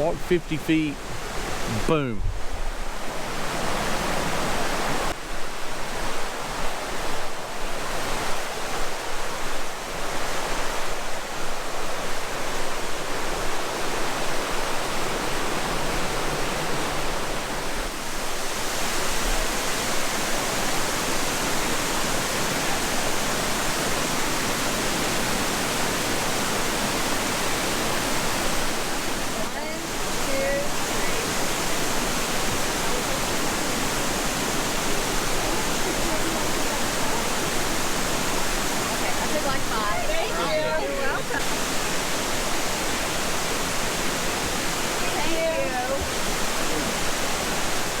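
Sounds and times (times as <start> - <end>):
rushing water: 0.0 - 48.0.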